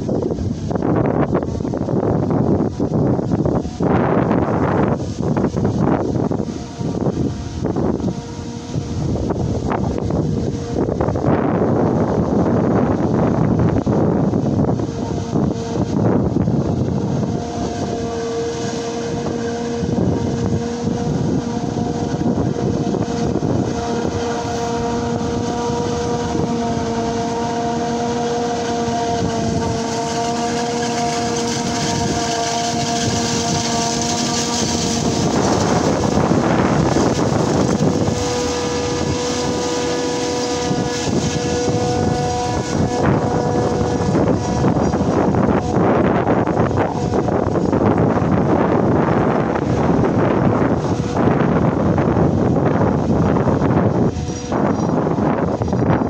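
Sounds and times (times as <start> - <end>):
harvester drone with high whine: 0.0 - 56.0
wind gust on microphone: 0.0 - 56.0.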